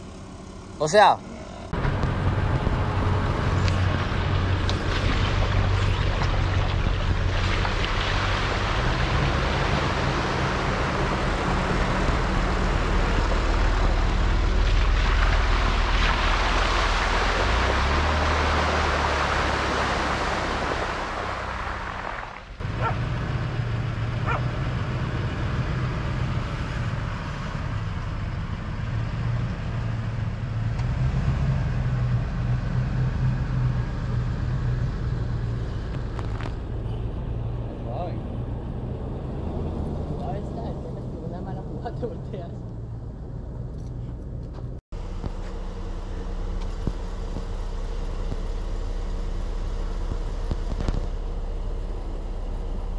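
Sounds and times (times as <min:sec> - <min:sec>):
suv engine running: 0:00.0 - 0:37.0, 0:39.6 - 0:52.9.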